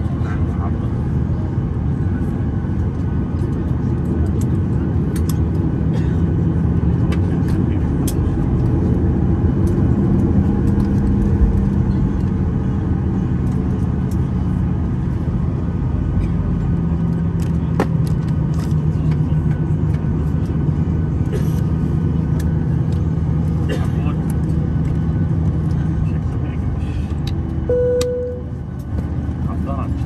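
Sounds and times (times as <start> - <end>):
constant hum: 0.0 - 30.0
vehicle engine rumble: 0.0 - 30.0.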